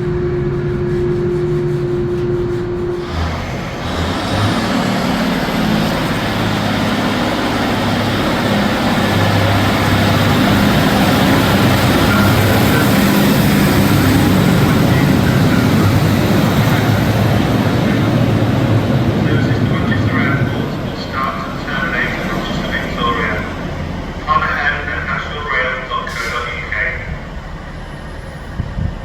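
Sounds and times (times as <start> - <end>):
train wheels on rail: 0.0 - 29.0.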